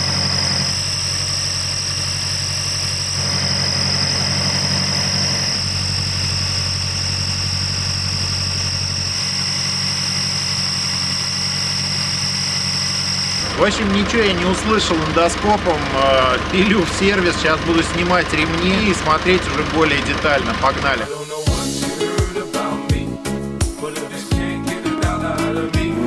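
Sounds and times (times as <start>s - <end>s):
car engine idling: 0.0s - 21.1s
high-pitched engine whistle: 0.0s - 21.1s.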